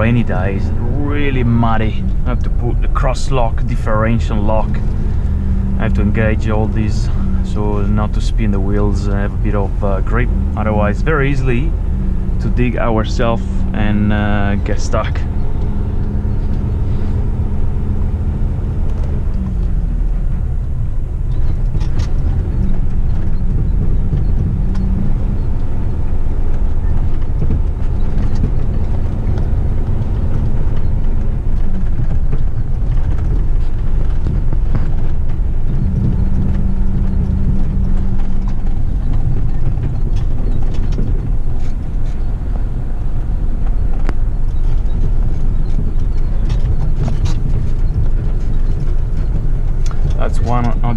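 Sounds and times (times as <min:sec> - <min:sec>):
truck diesel engine running: 0:00.0 - 0:50.9
truck knocks and rattles: 0:00.0 - 0:50.9.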